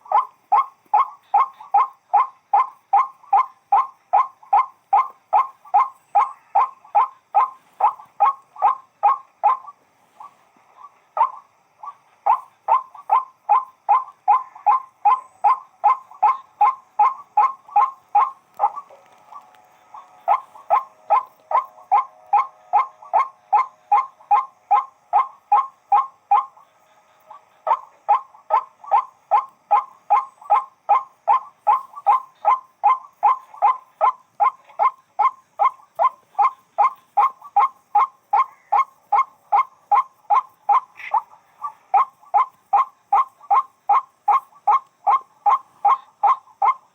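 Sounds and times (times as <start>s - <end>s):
bird calling harsh notes: 0.0s - 46.9s.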